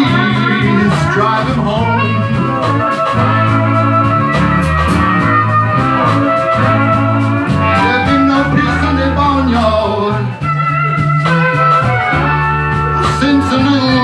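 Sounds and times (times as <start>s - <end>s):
blues band playing: 0.0s - 14.0s
harmonica: 0.0s - 14.0s.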